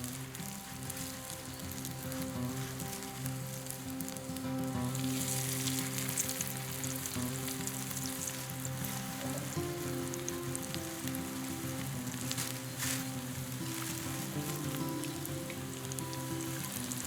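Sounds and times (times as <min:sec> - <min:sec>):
background music: 0:00.0 - 0:17.0
food sizzling in hot oil: 0:00.0 - 0:17.0.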